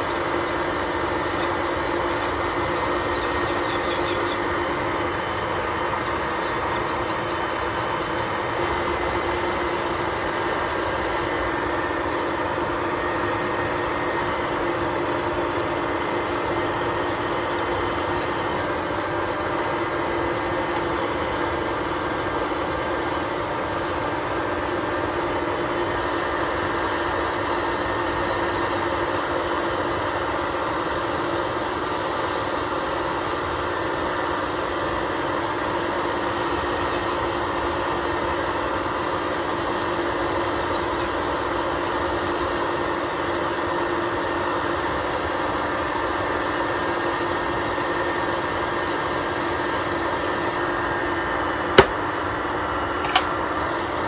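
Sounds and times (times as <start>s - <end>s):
electric nail drill whine: 0.0s - 54.0s.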